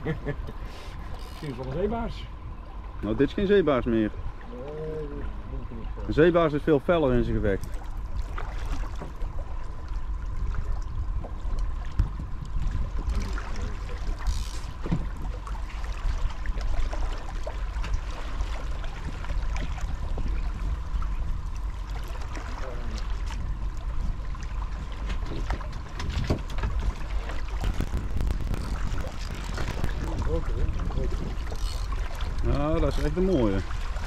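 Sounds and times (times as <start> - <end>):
boat engine rumble: 0.0 - 34.0
water noise: 0.0 - 34.0.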